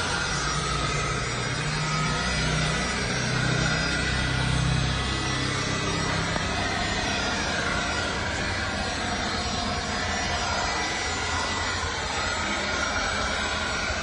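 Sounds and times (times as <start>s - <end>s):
leaf blower running: 0.0s - 13.3s.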